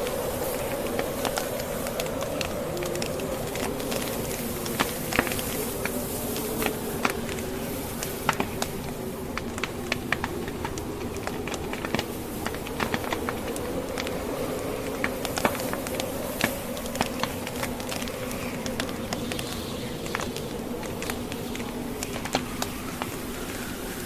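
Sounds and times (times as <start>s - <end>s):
howling blizzard wind: 0.0s - 24.0s
wood fire crackling and popping: 0.0s - 24.0s.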